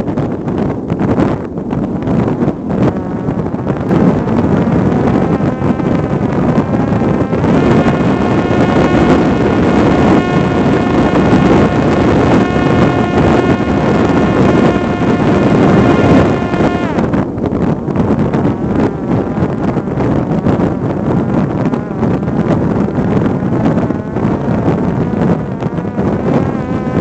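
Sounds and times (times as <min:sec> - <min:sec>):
wind noise on microphone: 0:00.0 - 0:27.0
drone propeller whining: 0:01.5 - 0:27.0.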